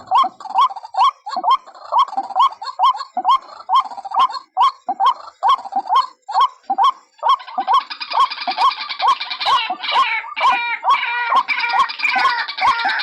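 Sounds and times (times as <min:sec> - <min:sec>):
fast high bird chattering: 0:00.0 - 0:13.0.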